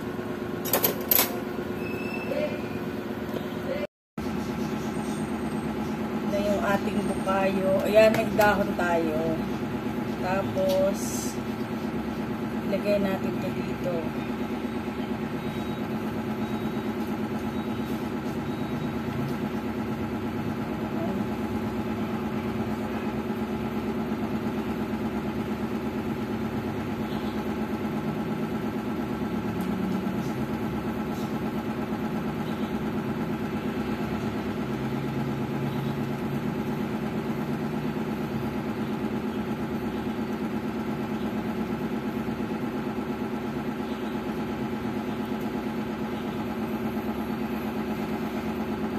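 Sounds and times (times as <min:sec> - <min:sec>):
steady motor hum: 0:00.0 - 0:48.9.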